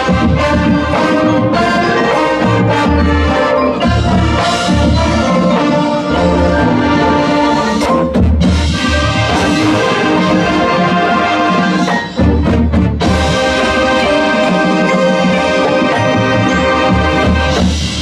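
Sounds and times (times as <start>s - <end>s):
marching band playing: 0.0s - 18.0s
sharp percussion hits: 0.0s - 18.0s.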